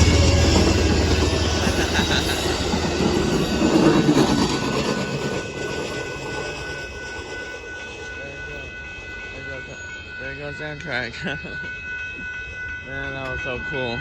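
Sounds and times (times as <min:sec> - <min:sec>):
high ringing tones: 0:00.0 - 0:14.0
passenger train rumble: 0:00.0 - 0:14.0.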